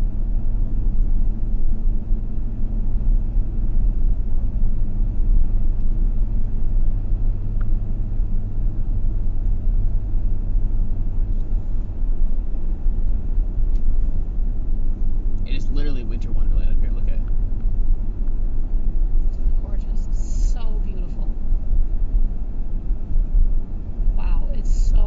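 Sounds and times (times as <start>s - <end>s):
car engine and road rumble: 0.0s - 25.0s
faint hum: 0.0s - 25.0s.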